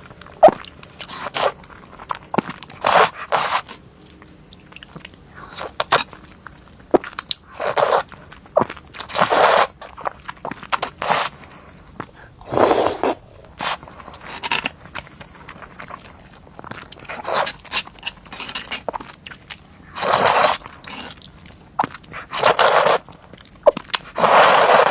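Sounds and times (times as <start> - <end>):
crunchy bites and chewing: 0.2 - 24.9.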